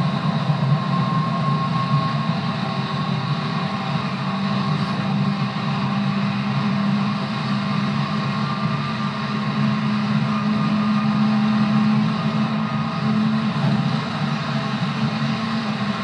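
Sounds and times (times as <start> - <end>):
electric train running: 0.0 - 16.0.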